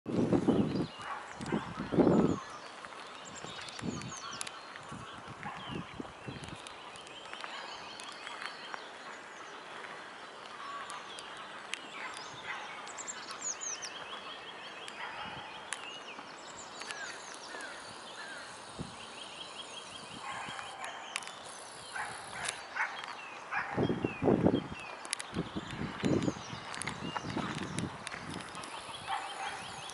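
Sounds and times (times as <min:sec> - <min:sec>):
outdoor background noise: 0:00.1 - 0:29.9
songbirds chirping and trilling: 0:00.1 - 0:29.9.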